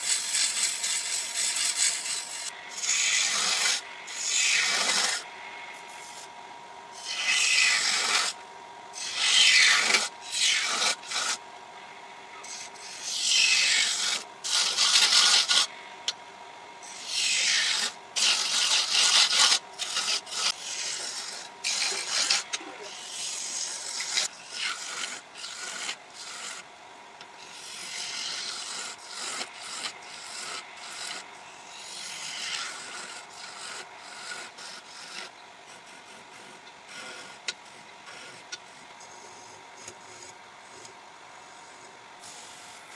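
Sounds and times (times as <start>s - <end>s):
lathe tool scraping wood: 0.0s - 6.3s, 7.0s - 8.4s, 9.0s - 11.4s, 12.5s - 15.8s, 16.9s - 26.7s, 27.4s - 42.9s.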